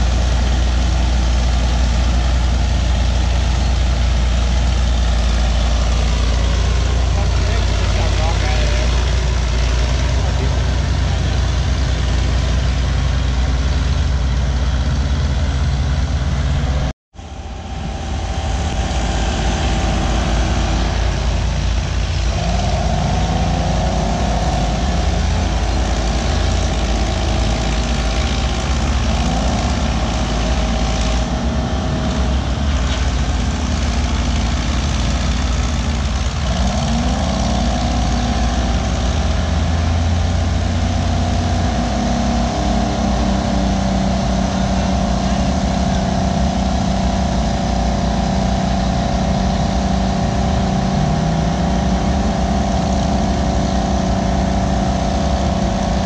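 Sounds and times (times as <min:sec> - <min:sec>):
heavy diesel bulldozer engines: 0:00.0 - 0:56.0.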